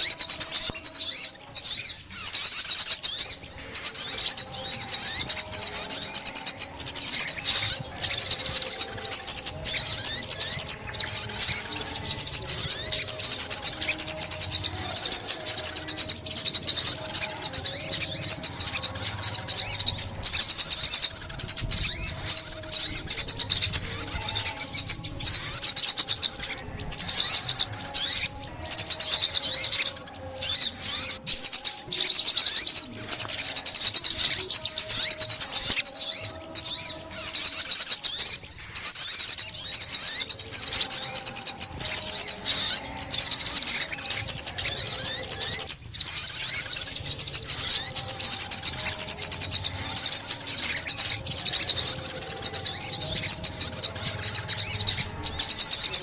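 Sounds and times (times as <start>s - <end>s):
bird twittering chirps: 0.0s - 56.0s.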